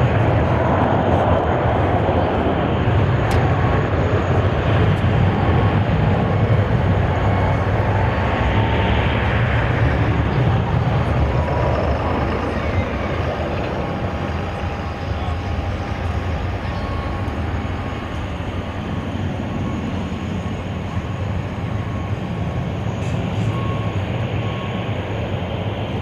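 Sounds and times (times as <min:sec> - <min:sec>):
jet engines at takeoff: 0:00.0 - 0:26.0.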